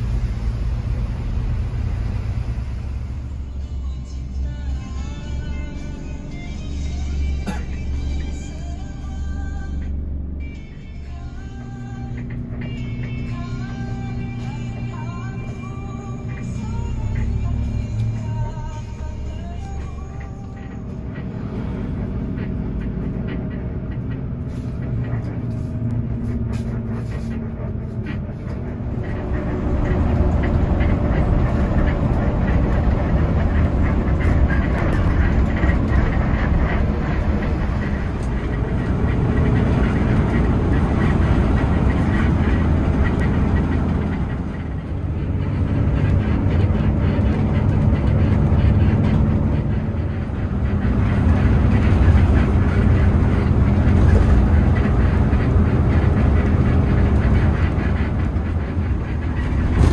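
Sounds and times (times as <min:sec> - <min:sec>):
bus engine rumbling: 0:00.0 - 0:59.9
road and cabin noise: 0:00.0 - 0:59.9.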